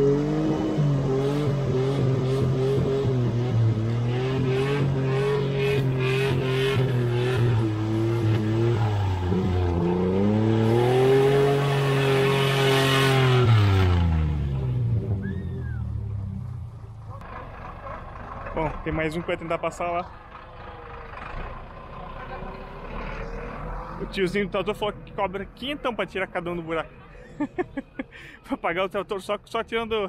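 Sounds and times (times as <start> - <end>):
vehicle engine revving: 0.0 - 25.2.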